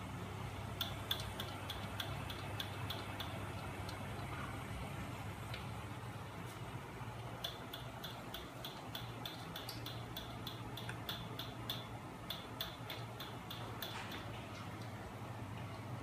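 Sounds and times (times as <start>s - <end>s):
mechanism ticking: 0.4s - 16.0s.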